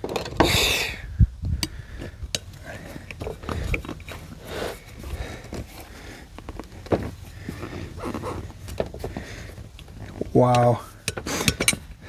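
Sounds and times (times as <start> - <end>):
rustling: 1.4 - 12.0.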